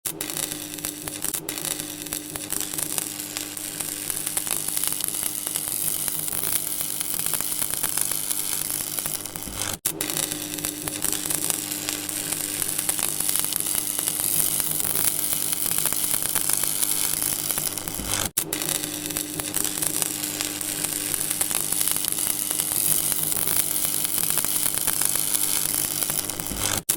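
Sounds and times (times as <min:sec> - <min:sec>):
electricity crackling hiss: 0:00.1 - 0:26.9.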